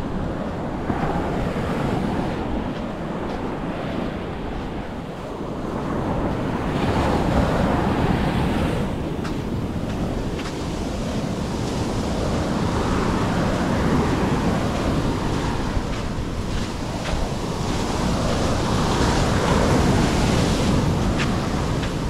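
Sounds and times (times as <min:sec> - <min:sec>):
surf washing onto beach: 0:00.0 - 0:22.0
wind buffeting microphone: 0:00.0 - 0:22.0.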